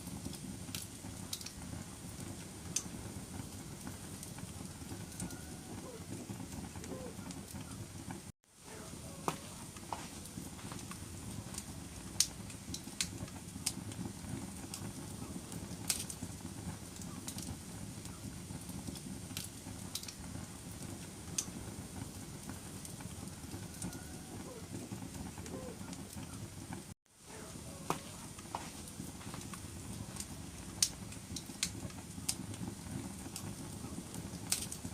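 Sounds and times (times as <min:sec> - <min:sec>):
fire crackles and pops: 0:00.0 - 0:34.9
wood fire burning: 0:00.0 - 0:34.9.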